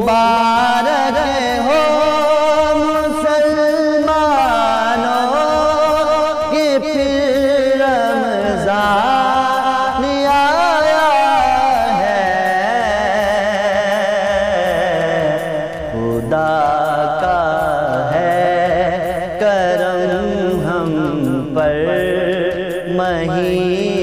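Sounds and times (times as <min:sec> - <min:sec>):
man singing: 0:00.0 - 0:24.0.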